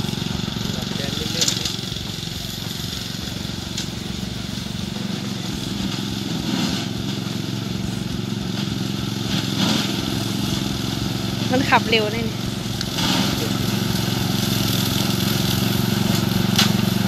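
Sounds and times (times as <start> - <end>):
ride-on mower engine droning: 0.0 - 17.0.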